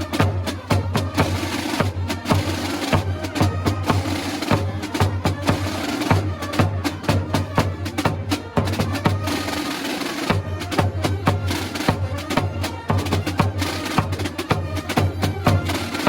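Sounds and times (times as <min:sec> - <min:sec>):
crowd voices: 0:00.0 - 0:16.0
drum band playing: 0:00.0 - 0:16.0.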